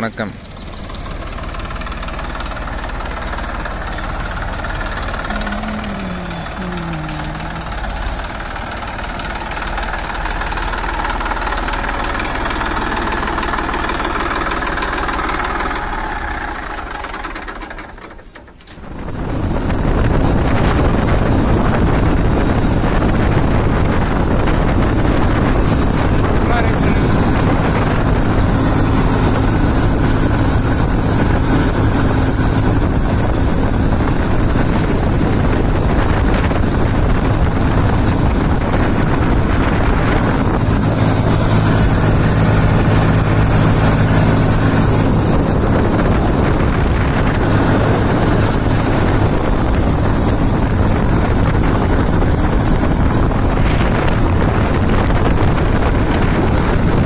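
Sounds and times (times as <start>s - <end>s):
tractor diesel engine running: 0.0s - 57.0s
wind noise on microphone: 0.0s - 57.0s.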